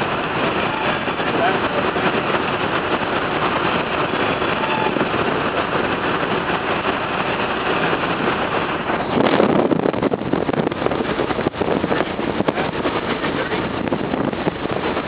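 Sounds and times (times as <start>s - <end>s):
air rushing over airframe: 0.0s - 15.0s
light aircraft engine drone: 0.0s - 15.0s.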